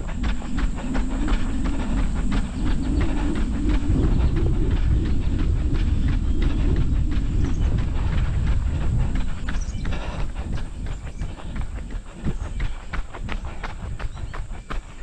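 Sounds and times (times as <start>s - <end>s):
low rumble: 0.0s - 15.0s
running footsteps on gravel: 0.0s - 15.0s.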